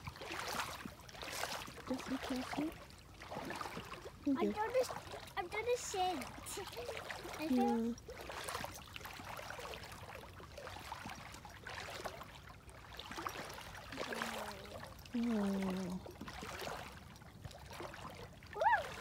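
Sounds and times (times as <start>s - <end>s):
feet wading through water: 0.0s - 19.0s.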